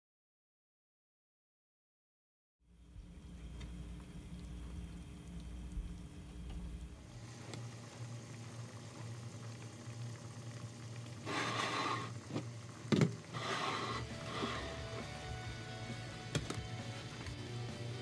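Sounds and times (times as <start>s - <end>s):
meatballs bubbling in a pan: 2.6s - 18.0s
steady low hum: 2.7s - 18.0s.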